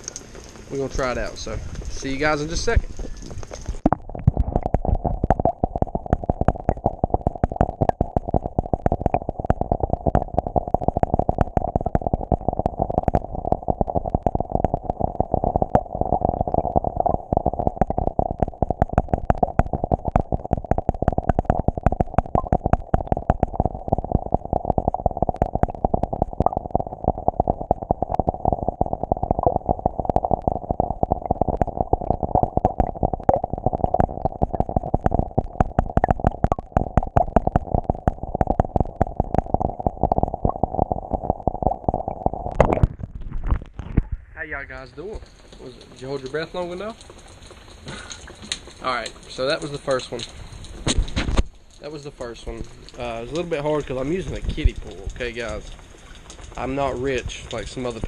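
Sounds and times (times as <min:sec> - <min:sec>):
rain pattering on water: 0:00.0 - 0:58.0.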